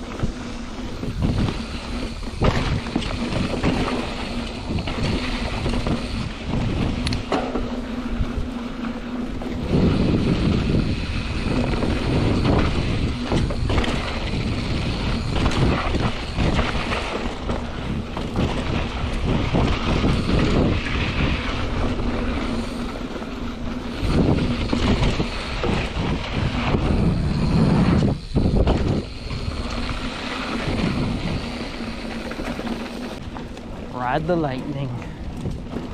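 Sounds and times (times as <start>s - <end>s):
bike knocking and rattling: 0.0s - 35.9s
tyres rumbling over dirt: 0.0s - 35.9s
wind buffeting microphone: 0.0s - 35.9s.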